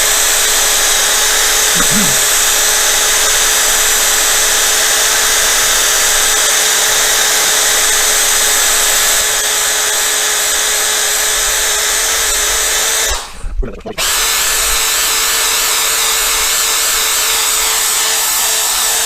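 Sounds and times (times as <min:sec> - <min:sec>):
electric drill polishing whir: 0:00.0 - 0:13.4, 0:14.0 - 0:19.0.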